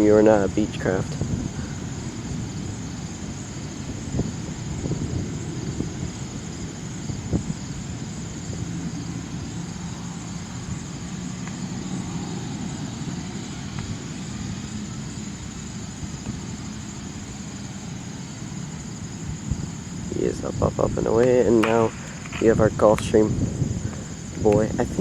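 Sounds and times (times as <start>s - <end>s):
distant jet engine rumble: 0.0s - 25.0s.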